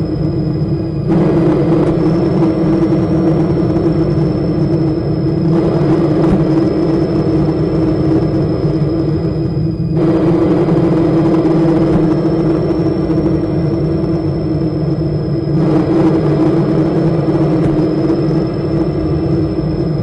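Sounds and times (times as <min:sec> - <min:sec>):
high whine: 0:00.0 - 0:20.0.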